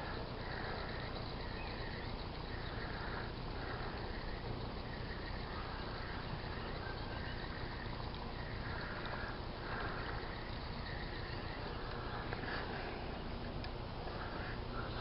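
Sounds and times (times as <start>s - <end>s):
animal calls: 0.0s - 15.0s
outdoor background noise: 0.0s - 15.0s.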